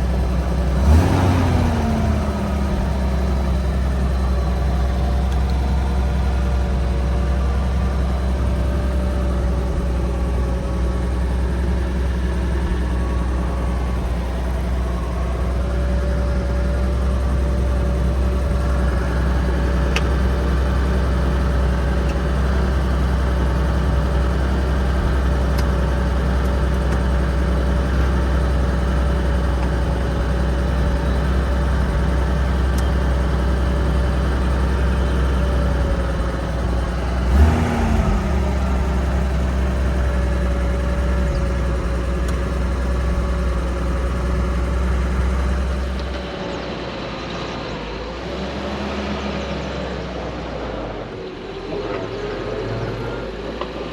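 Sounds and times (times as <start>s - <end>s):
car engine running steadily: 0.0s - 53.9s.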